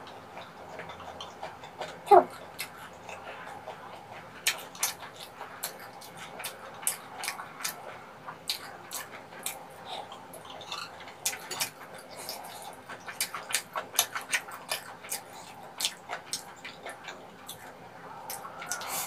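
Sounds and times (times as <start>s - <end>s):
chewing rice cakes: 0.0s - 19.0s.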